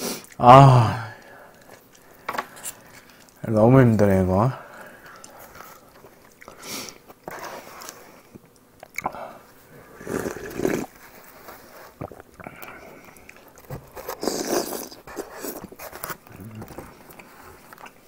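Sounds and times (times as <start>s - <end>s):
man chewing and eating: 0.0s - 18.0s.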